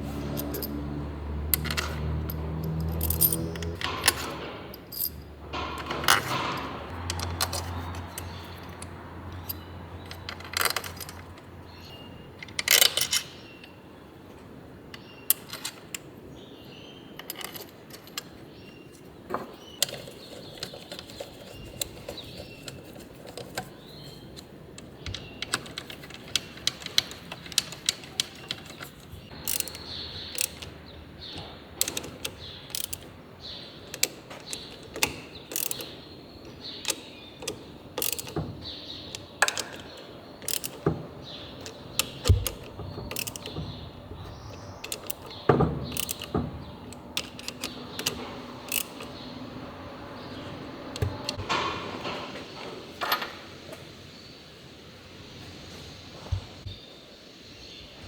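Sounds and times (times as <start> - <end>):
metal tools and parts clinking: 0.0 - 52.4.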